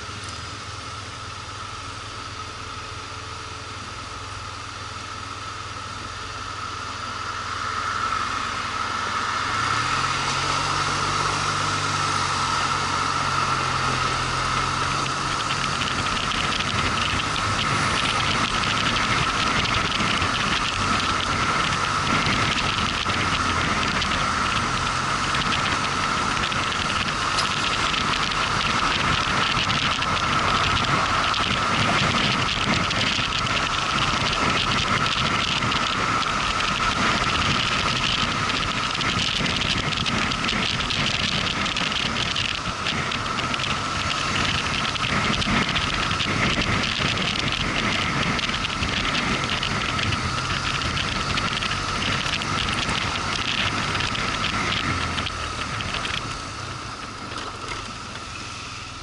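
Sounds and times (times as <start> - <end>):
constant whine: 0.0 - 59.0
wind and road noise: 0.0 - 59.0.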